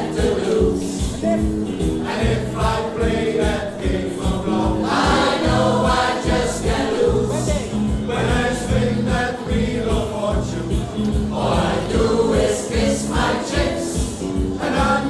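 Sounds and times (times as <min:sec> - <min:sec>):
backing singers: 0:00.0 - 0:15.0
upbeat pop song: 0:00.0 - 0:15.0.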